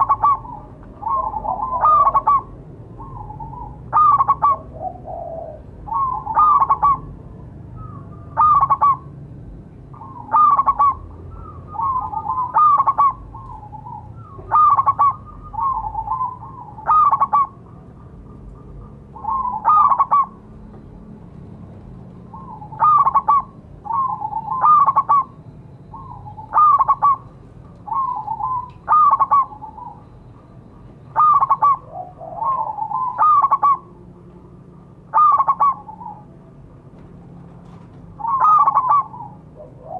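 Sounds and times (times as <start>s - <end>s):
dove cooing: 0.0s - 9.2s, 9.9s - 20.5s, 22.2s - 34.1s, 35.1s - 36.4s, 38.1s - 39.9s.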